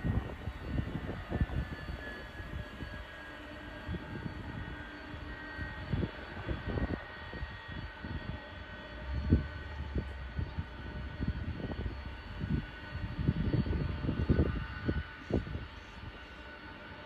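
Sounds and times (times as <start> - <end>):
low rumble: 0.0 - 16.2
distant jet engines whining: 0.0 - 17.0.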